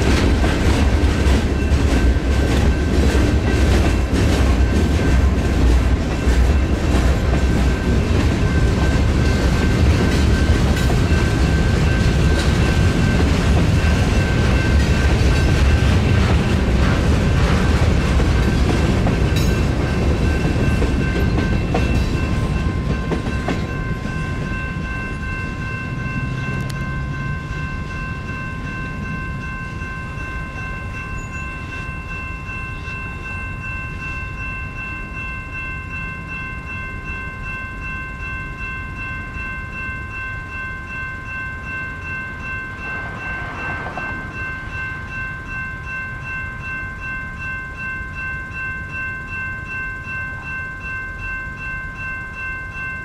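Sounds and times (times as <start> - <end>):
train wheels clattering on rails: 0.0 - 34.9, 35.5 - 53.0
crossing warning bells ringing: 0.0 - 53.0.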